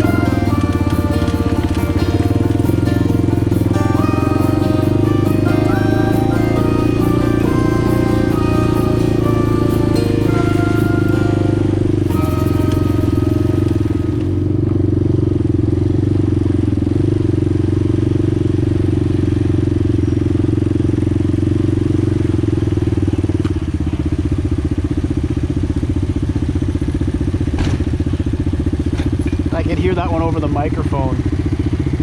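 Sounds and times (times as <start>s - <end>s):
single-cylinder engine running: 0.0s - 32.0s.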